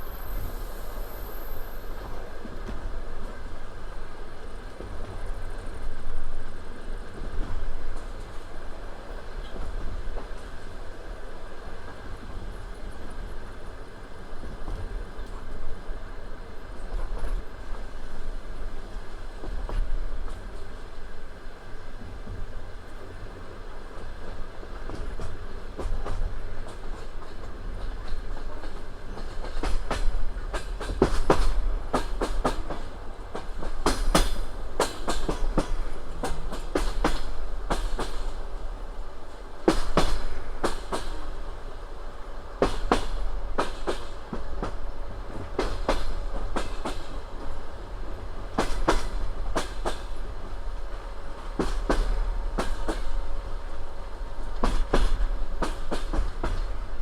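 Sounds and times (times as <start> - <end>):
low rumble of train carriage: 0.0 - 57.0
train wheels clicking on rails: 0.0 - 57.0.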